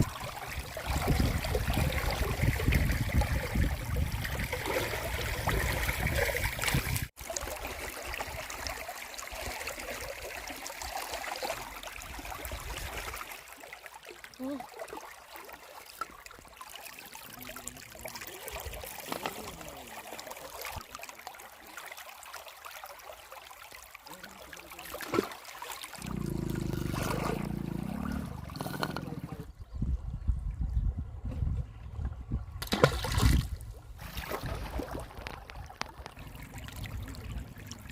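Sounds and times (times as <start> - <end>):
river water running and trickling: 0.0 - 29.8, 32.6 - 37.9.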